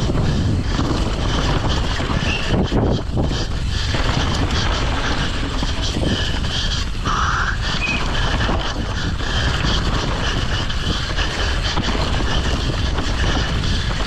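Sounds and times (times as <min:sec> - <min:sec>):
low rumble: 0:00.0 - 0:14.0
mountain bike rattling and knocking: 0:00.0 - 0:14.0
wind roaring over microphone: 0:00.0 - 0:14.0.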